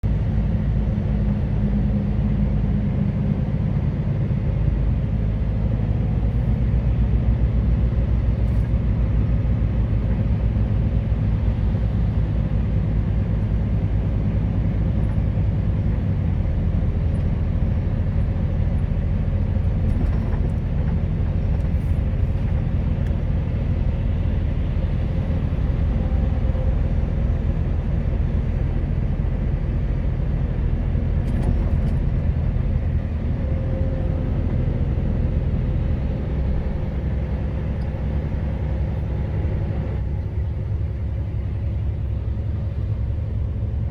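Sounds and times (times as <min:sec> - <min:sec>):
truck engine and road noise: 0:00.0 - 0:43.9.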